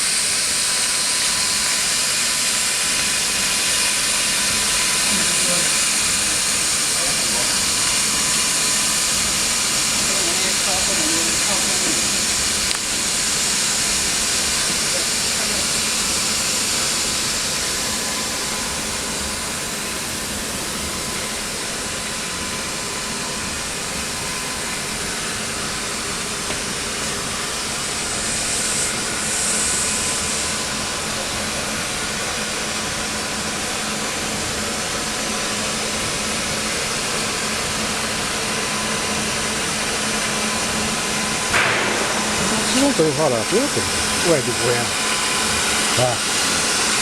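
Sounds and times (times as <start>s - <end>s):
welding arc hiss: 0.0s - 47.0s
faint machine hum: 2.6s - 47.0s.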